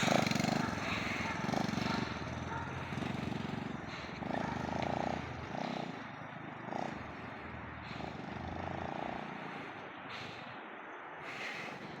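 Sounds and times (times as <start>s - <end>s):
small motorcycle engine running: 0.0s - 10.4s.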